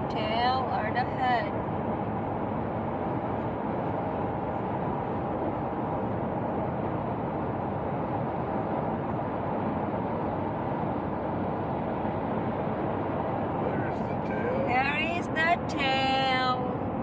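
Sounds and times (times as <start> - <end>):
car road and tyre noise: 0.0 - 17.0.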